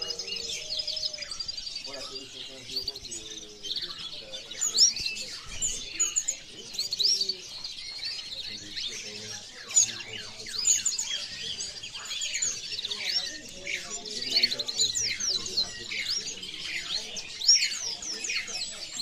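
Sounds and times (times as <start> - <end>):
canaries chirping and singing: 0.0 - 19.0.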